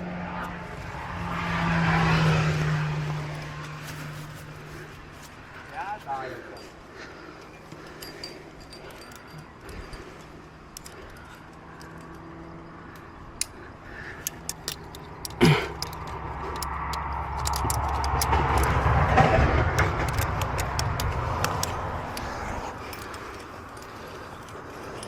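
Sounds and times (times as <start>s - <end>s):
motor vehicle passing: 0.0s - 25.0s
climbing gear clicking and jangling: 0.4s - 25.0s.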